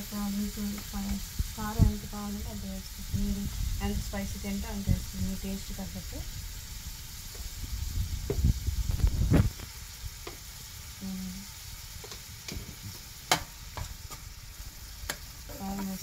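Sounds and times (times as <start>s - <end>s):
curry sizzling in a frying pan: 0.0s - 16.0s.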